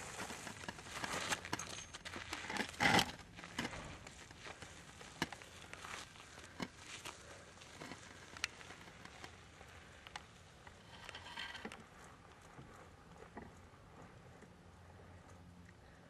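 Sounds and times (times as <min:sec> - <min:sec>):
gravel crunching: 0:00.0 - 0:16.0.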